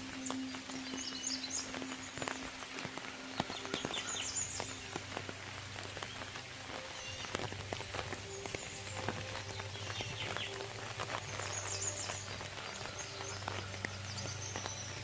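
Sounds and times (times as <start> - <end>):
rain pattering and dripping: 0.0 - 15.0
small birds chirping: 0.0 - 15.0.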